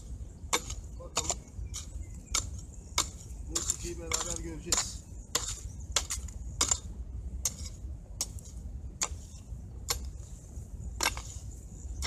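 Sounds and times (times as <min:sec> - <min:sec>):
hand hoe chopping stony soil: 0:00.4 - 0:10.4, 0:11.0 - 0:12.0.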